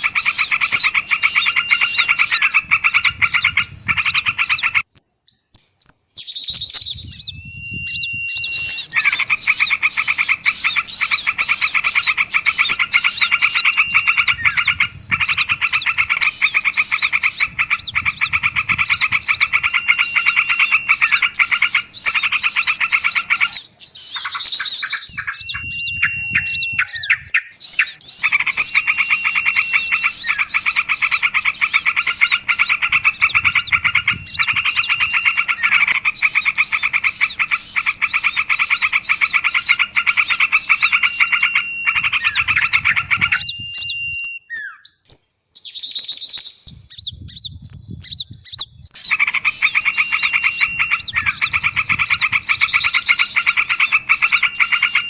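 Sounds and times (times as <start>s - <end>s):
bird whistles: 0.0s - 55.0s
songbirds chattering: 0.0s - 55.0s.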